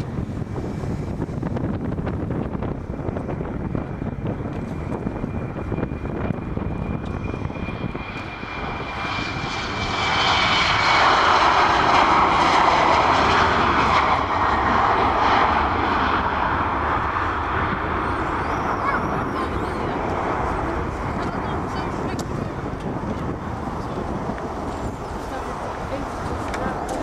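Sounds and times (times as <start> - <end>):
jet engine whine: 0.0 - 27.0.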